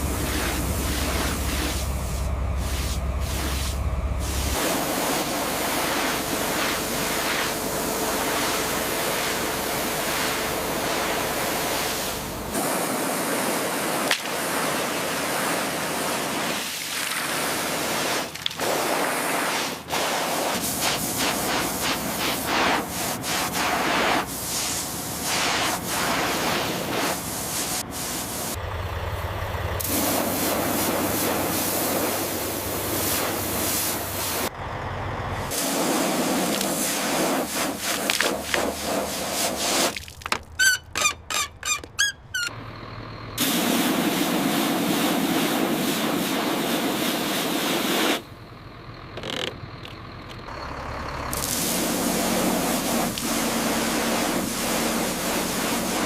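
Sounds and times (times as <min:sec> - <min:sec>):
high-pressure water spray hissing: 0:00.0 - 0:28.6, 0:29.8 - 0:34.5, 0:35.5 - 0:40.0, 0:43.4 - 0:48.2, 0:51.4 - 0:56.0.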